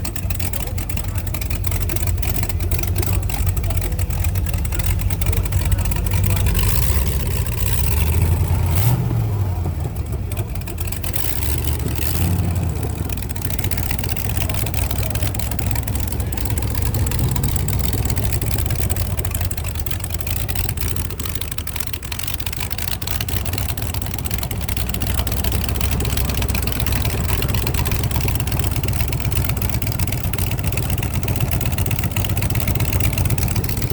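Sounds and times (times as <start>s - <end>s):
car engine idling: 0.0s - 33.9s
engine revving: 0.0s - 33.9s.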